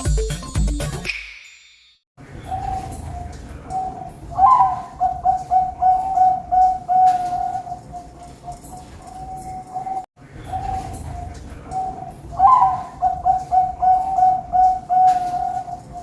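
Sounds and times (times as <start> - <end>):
dove cooing: 2.4 - 16.0.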